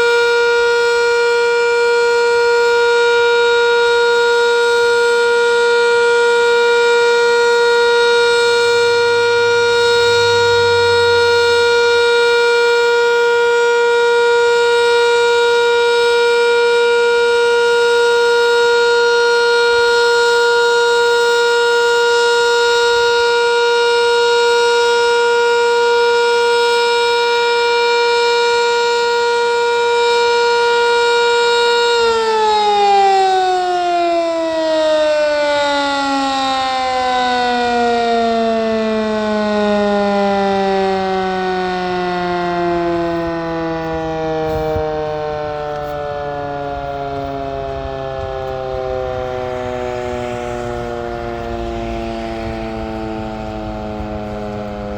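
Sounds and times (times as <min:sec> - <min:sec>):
warning siren winding down: 0:00.0 - 0:54.9.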